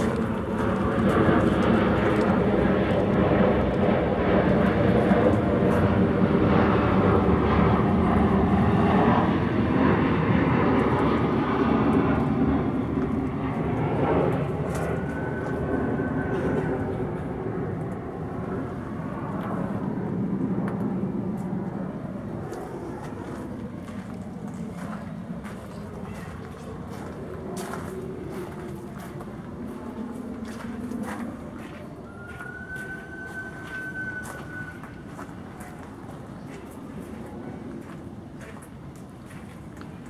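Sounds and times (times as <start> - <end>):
large engine droning: 0.0 - 40.0.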